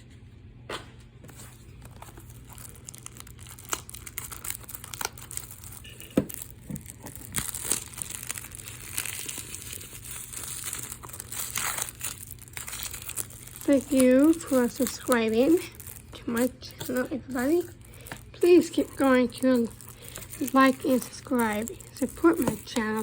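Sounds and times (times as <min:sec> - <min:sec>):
plastic wrapping tearing and crinkling: 0:01.3 - 0:23.0.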